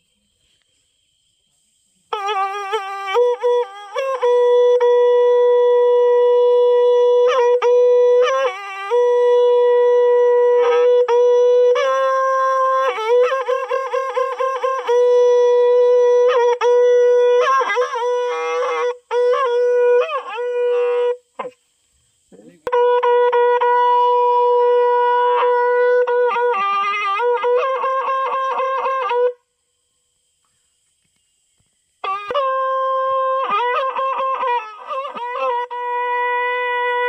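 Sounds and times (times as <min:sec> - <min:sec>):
folk wind instrument playing: 0:02.1 - 0:21.6, 0:22.6 - 0:29.4, 0:32.0 - 0:37.0.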